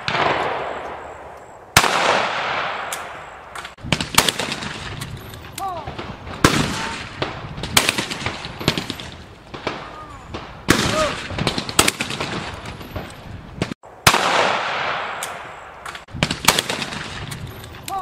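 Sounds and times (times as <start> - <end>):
shotgun shots echoing: 0.0 - 17.6.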